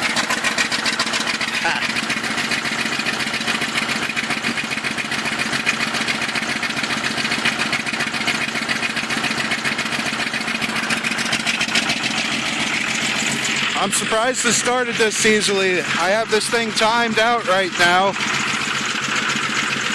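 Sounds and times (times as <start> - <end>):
diesel engine running rough: 0.0 - 19.9.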